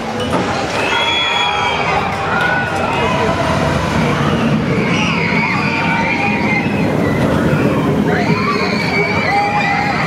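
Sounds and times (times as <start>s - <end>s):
roller coaster wheels rumbling: 0.0s - 10.0s.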